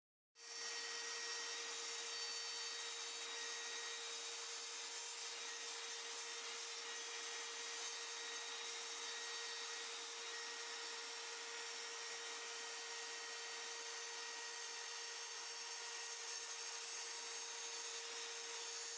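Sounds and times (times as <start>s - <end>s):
router cutting with high whine: 0.4s - 18.9s.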